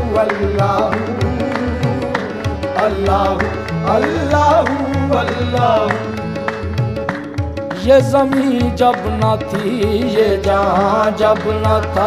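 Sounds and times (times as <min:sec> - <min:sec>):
tabla drumming: 0:00.0 - 0:12.0.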